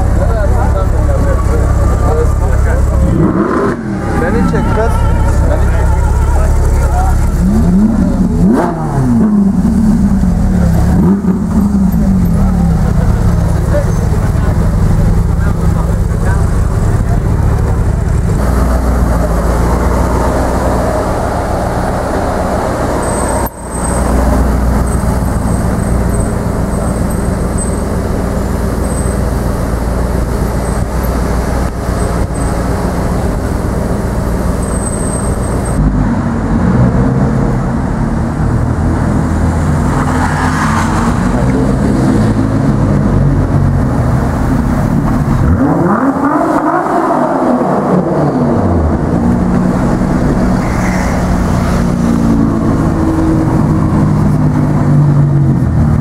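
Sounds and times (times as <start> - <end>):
car engine revving: 0.0 - 56.0
supercar moving off: 0.0 - 56.0.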